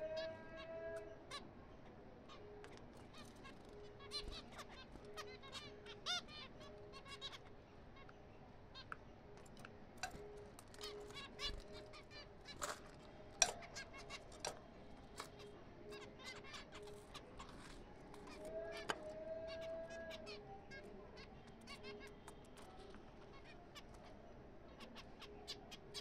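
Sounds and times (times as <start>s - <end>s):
finches calling: 0.0s - 26.0s.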